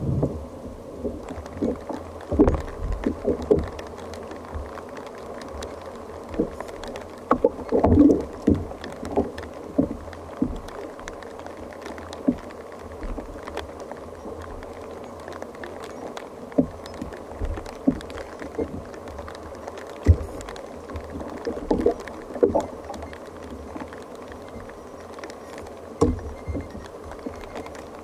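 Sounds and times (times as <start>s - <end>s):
water slapping kayak hull: 0.0s - 28.0s
faint ticks: 0.1s - 28.0s.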